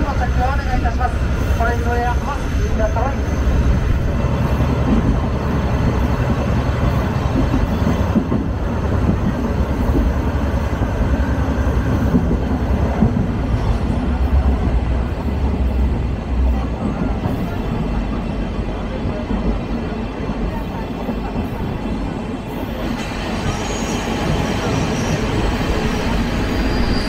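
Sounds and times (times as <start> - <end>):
train rumbling along the line: 0.0 - 27.0.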